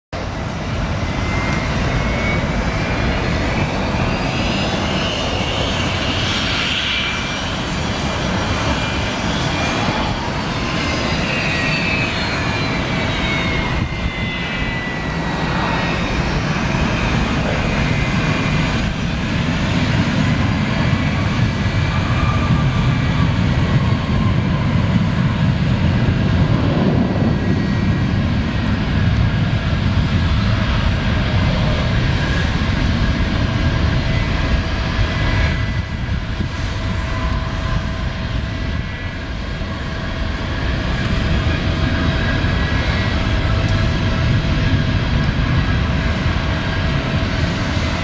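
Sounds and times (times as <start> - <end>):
jet engines whining rumble: 0.1 - 48.0.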